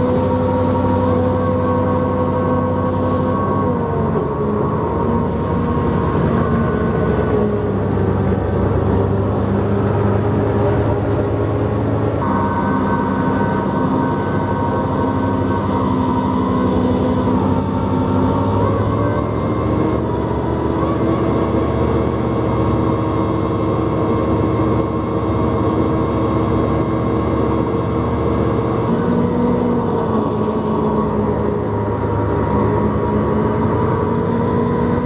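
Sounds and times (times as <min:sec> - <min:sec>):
ice resurfacer engine droning: 0:00.0 - 0:35.0.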